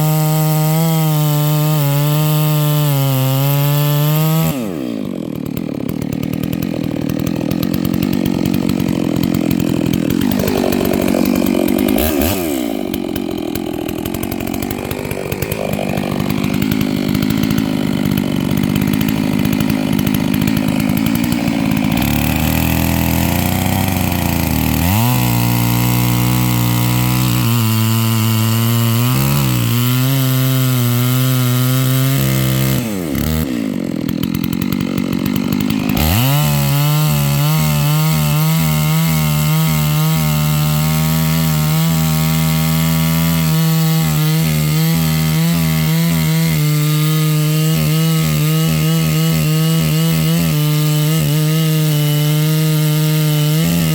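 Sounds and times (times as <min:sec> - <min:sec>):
chainsaw cutting: 0:00.0 - 0:53.9.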